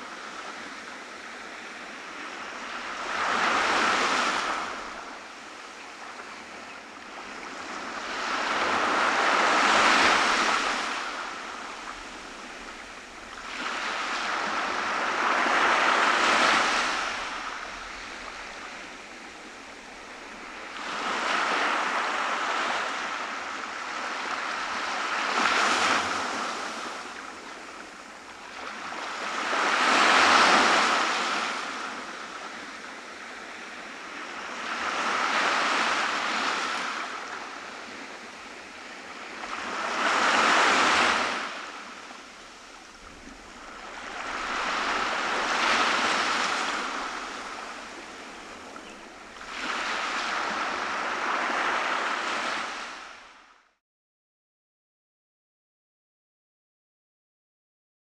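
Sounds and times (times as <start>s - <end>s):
small waves breaking on beach: 0.0s - 53.7s.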